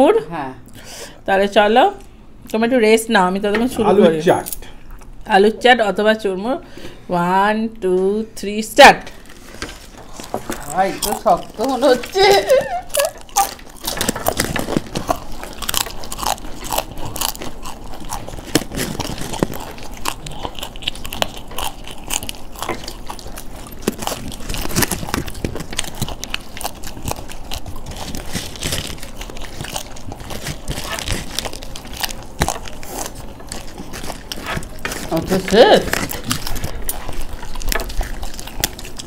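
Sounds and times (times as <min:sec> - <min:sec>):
people chewing crisp food: 0:03.9 - 0:05.3, 0:09.1 - 0:39.0.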